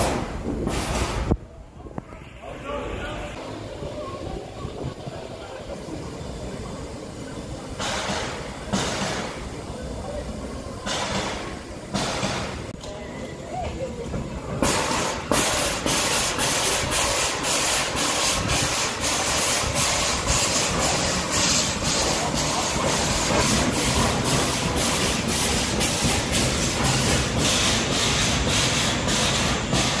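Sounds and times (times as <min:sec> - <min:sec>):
steam hissing: 0:00.0 - 0:01.4, 0:02.4 - 0:30.0
steam locomotive chuffing: 0:00.0 - 0:01.4, 0:02.7 - 0:30.0.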